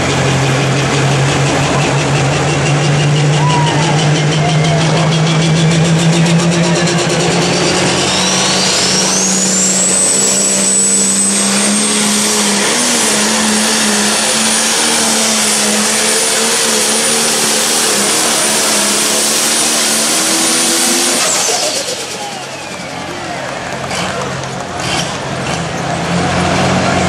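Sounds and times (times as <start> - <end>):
diesel tractor engine at full power: 0.0 - 27.0
high turbo whine: 0.0 - 27.0.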